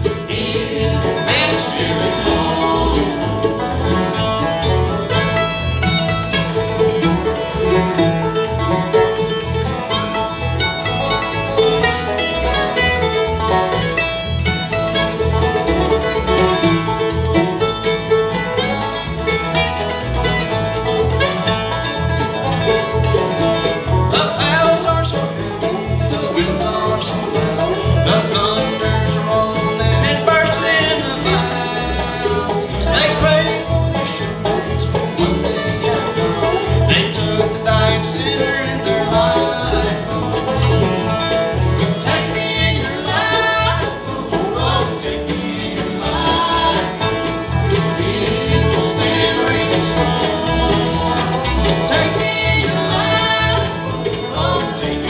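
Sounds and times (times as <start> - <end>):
banjo: 0.0 - 55.0
fiddle: 0.0 - 55.0
guitar: 0.0 - 55.0
mandolin: 0.0 - 55.0
upright bass: 0.0 - 55.0.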